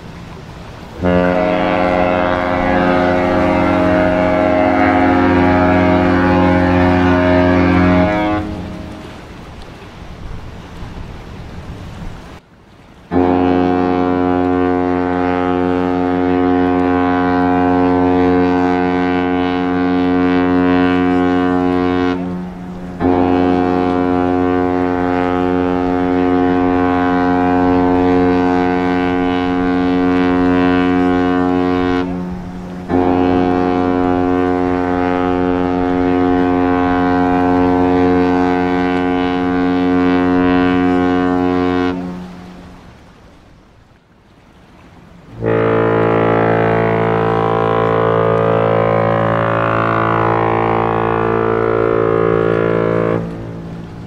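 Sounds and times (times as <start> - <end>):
ship horn blasts: 0.0 - 10.8, 13.0 - 43.4, 44.8 - 54.0.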